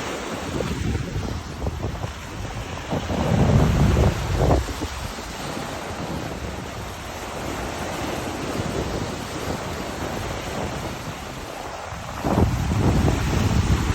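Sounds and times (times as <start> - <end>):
sea waves washing on shore: 0.0 - 13.9
wind on microphone: 0.0 - 13.9.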